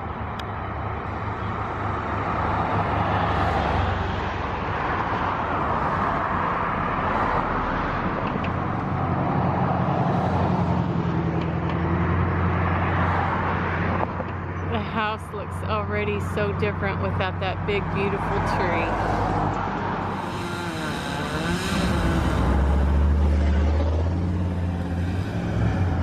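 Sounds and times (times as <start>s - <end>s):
continuous rushing noise: 0.0s - 26.0s
engine running steadily: 0.0s - 26.0s.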